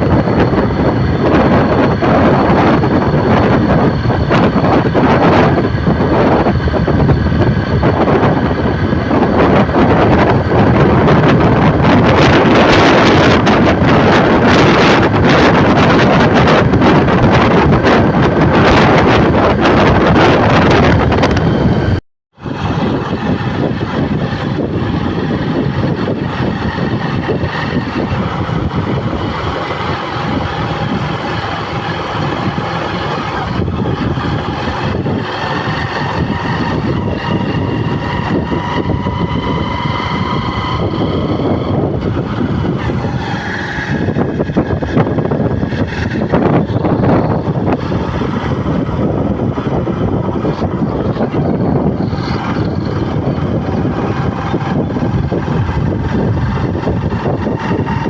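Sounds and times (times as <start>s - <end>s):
vehicle running noise: 0.0s - 58.0s.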